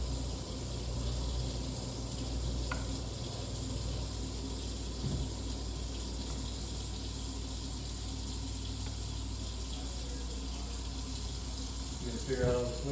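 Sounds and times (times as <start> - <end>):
ceiling fan running: 0.0 - 12.9.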